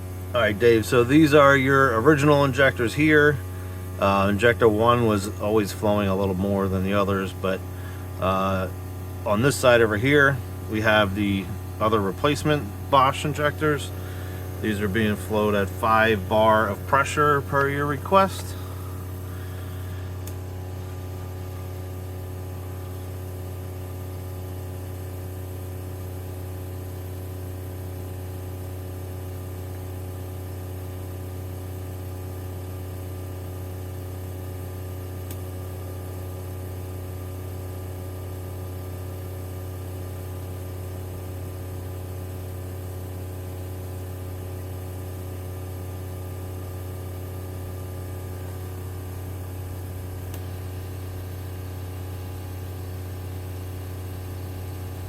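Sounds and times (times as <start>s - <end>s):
pump motor hum: 0.0s - 55.0s.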